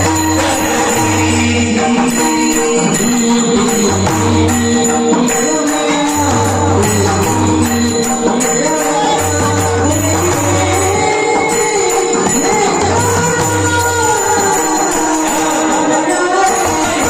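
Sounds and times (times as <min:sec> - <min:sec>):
jingling percussion: 0:00.0 - 0:17.0
man singing: 0:00.0 - 0:17.0.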